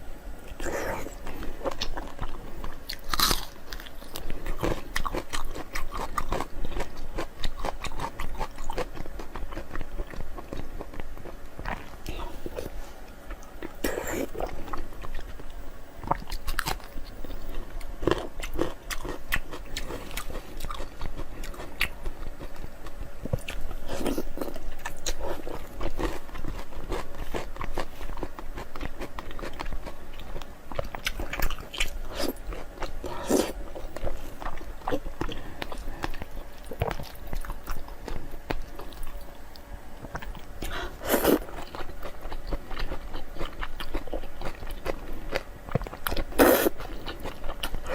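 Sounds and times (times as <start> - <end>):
person chewing crunchy food: 0.4 - 47.9.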